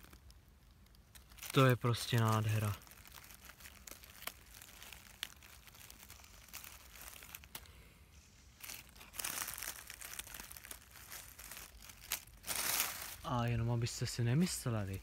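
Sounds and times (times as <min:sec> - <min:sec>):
dry leaf litter rustling: 0:00.0 - 0:15.0.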